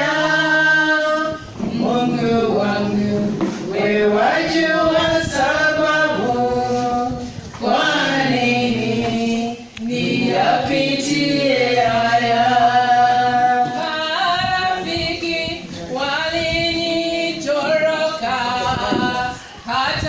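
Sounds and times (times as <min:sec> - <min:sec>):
voices singing along: 0:00.0 - 0:20.0
woman singing into microphone: 0:00.0 - 0:20.0.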